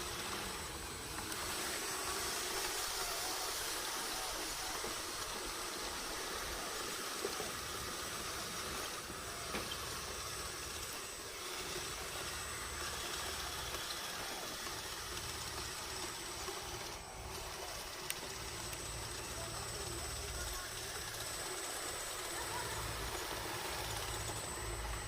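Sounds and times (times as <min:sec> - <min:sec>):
bulldozer engine rumbling: 0:00.0 - 0:25.0.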